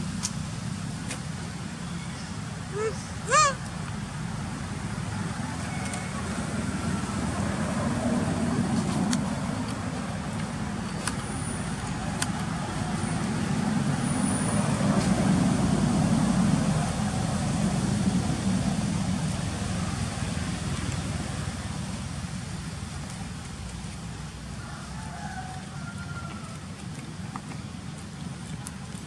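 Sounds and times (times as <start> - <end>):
vehicle engine and tyre rumble: 0.0 - 29.0.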